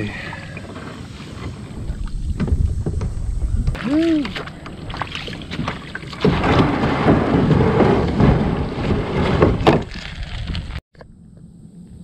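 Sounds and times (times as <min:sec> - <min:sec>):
kayak hull scraping on gravel: 0:00.0 - 0:03.5, 0:04.5 - 0:10.8.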